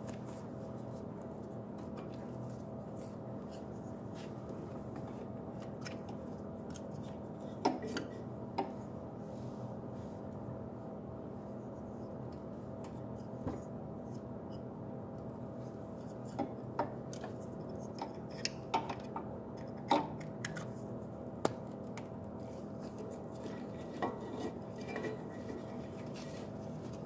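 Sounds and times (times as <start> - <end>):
background hum: 0.0 - 27.0.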